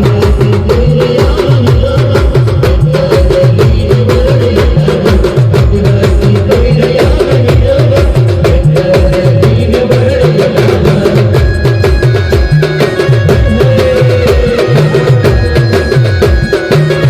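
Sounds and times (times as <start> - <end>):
fast driving drum beat: 0.0 - 17.0
live band music: 0.0 - 17.0.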